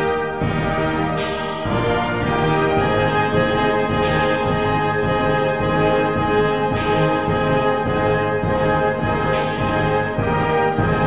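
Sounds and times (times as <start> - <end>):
orchestral music with brass chords: 0.0 - 11.0.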